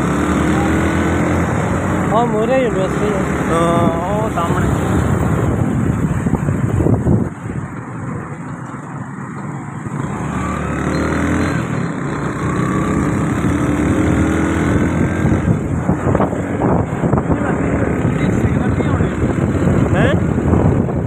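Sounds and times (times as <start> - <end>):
road noise: 0.0 - 21.0
vehicle engine: 0.0 - 21.0.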